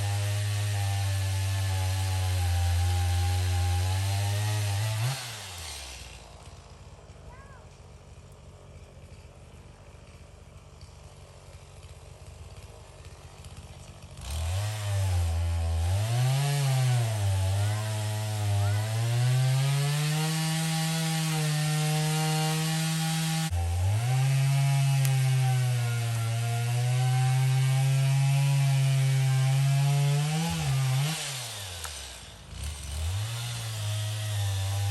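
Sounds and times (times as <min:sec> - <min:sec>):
chainsaw cutting wood: 0:00.0 - 0:34.9
chainsaw engine revving: 0:00.0 - 0:34.9.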